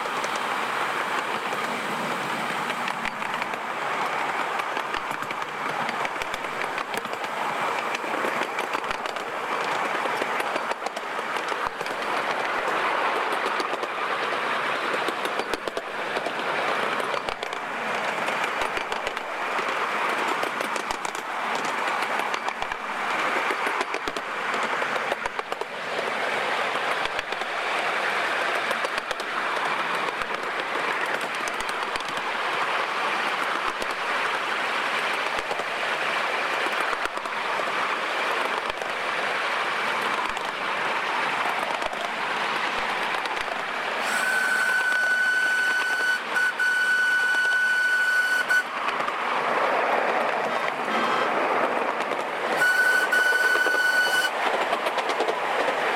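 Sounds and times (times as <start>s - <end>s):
clicks over rail joints: 0.0s - 55.9s
steel wheels on rails: 0.0s - 55.9s.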